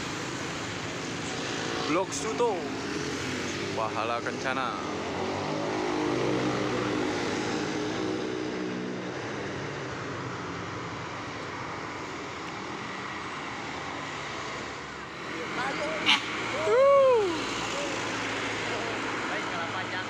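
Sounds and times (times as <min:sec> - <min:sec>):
bus engine climbing hill: 0:00.0 - 0:20.0
road and traffic noise: 0:00.0 - 0:20.0.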